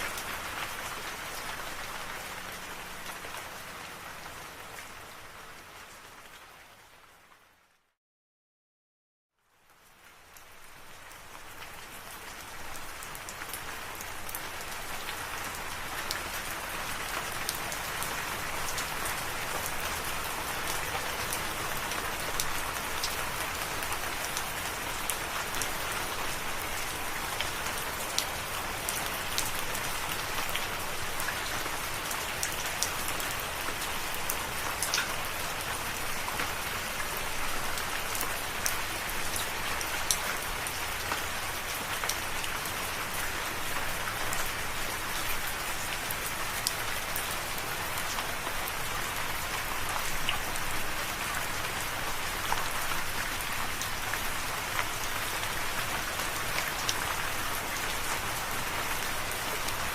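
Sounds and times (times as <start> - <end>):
steady rain falling: 0.0 - 7.9, 9.4 - 59.9.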